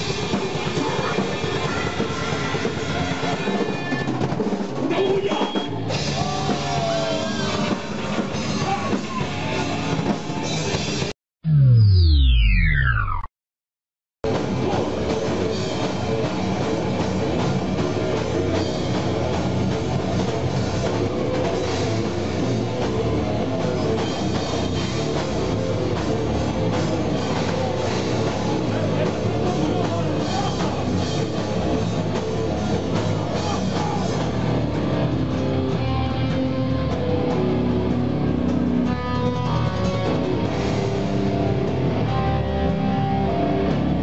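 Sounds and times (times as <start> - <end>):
heavy metal band playing live: 0.0 - 11.1, 14.2 - 44.0.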